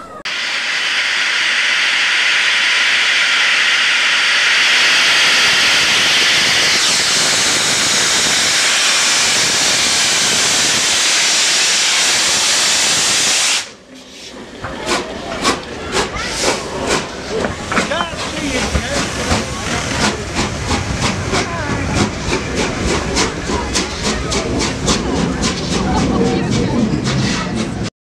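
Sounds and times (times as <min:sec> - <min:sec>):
steam locomotive hissing steam: 0:00.3 - 0:27.9.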